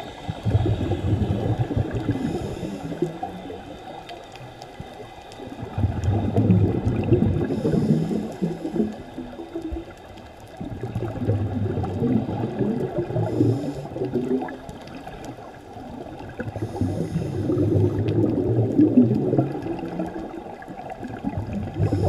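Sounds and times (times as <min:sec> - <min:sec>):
underwater exhaled bubbles gurgling: 0:00.0 - 0:22.0.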